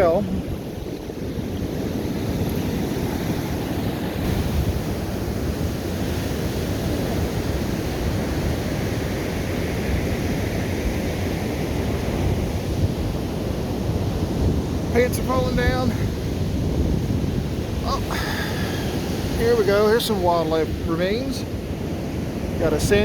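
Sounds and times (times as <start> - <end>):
waves breaking on beach: 0.0 - 23.0
wind buffeting microphone: 0.0 - 23.0.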